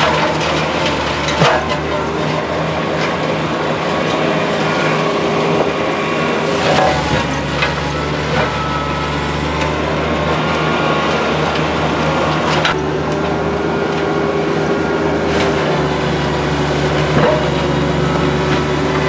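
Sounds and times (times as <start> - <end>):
mulcher grinding through brush: 0.0 - 19.0
tractor diesel engine running: 0.0 - 19.0.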